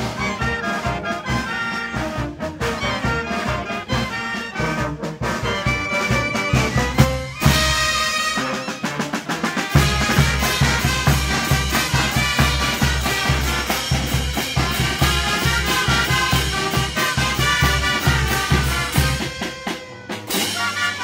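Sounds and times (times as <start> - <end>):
brass band playing: 0.0 - 21.0
snare and bass drum beats: 0.0 - 21.0.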